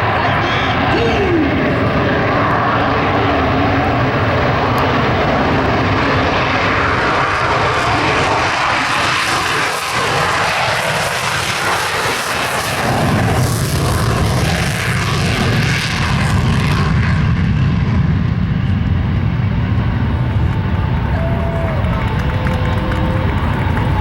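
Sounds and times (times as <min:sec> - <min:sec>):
jet engine rushing: 0:00.0 - 0:24.0.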